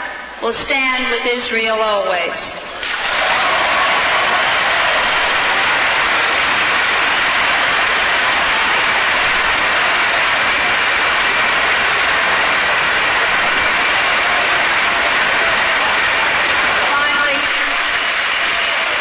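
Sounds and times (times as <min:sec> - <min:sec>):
crowd applauding and cheering: 0:02.7 - 0:19.0.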